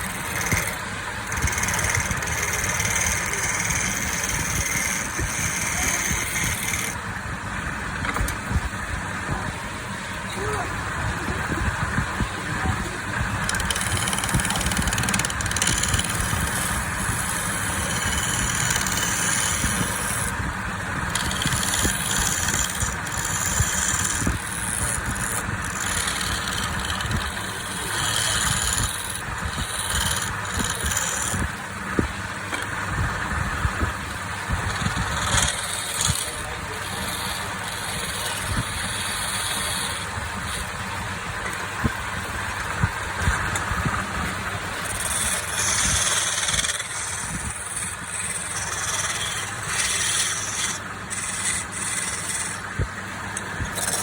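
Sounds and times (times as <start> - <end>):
turning tool scraping wood: 0.0 - 7.0, 13.3 - 20.4, 21.0 - 41.7, 42.6 - 54.0
lathe motor rumble: 0.0 - 54.0.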